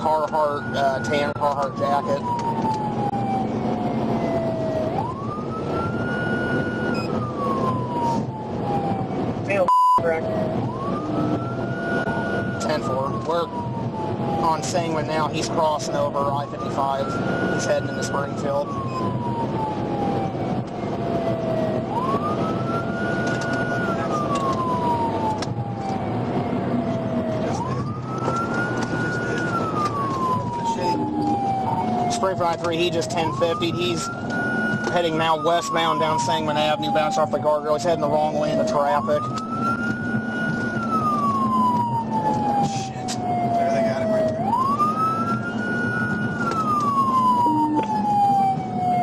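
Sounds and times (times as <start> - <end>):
police siren wailing: 0.0 - 49.0
road and engine noise: 0.0 - 49.0.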